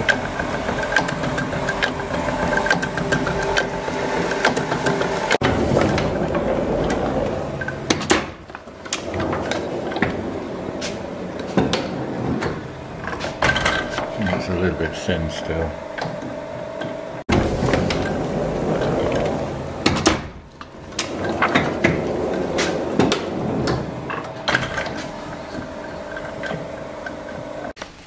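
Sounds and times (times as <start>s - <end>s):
printing press clattering: 0.0s - 27.8s.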